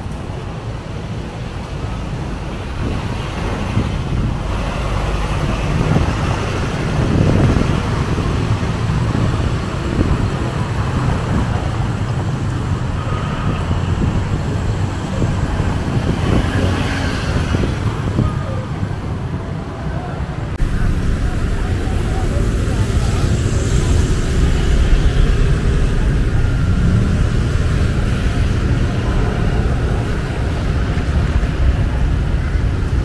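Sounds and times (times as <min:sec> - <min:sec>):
traffic hum: 0:00.0 - 0:33.0.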